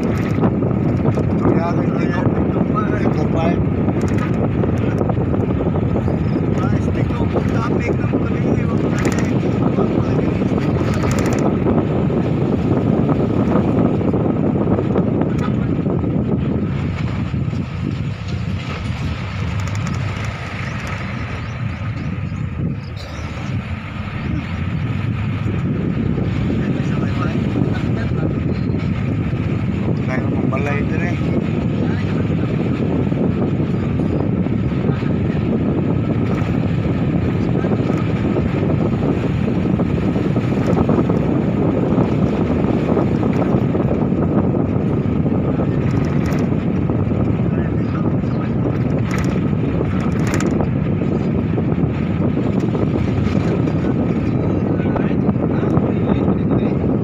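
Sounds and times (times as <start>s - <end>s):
vehicle engine and road noise: 0.0s - 57.0s
wind buffeting microphone: 0.0s - 57.0s.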